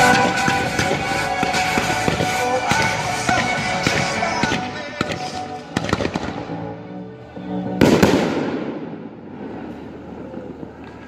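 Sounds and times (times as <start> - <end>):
fireworks cracking and booming: 0.0 - 6.6, 7.8 - 11.0
music: 0.0 - 10.0.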